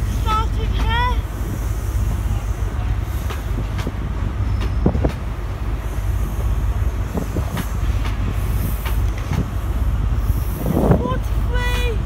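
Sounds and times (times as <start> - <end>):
sharp clicks of train wheels: 0.0 - 12.0
train rumbling past: 0.0 - 12.0.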